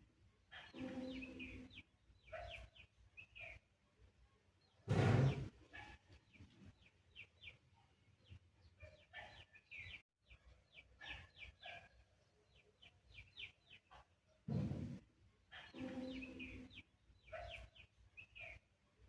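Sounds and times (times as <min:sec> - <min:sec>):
small birds chirping: 0:00.4 - 0:18.9.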